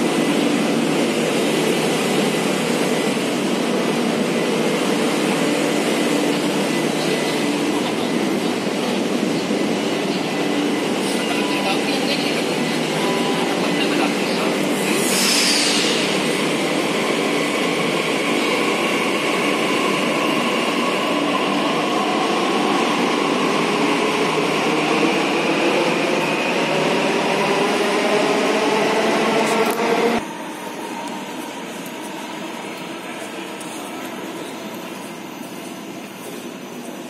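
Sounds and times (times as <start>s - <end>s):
metro train rumbling: 0.0s - 37.0s.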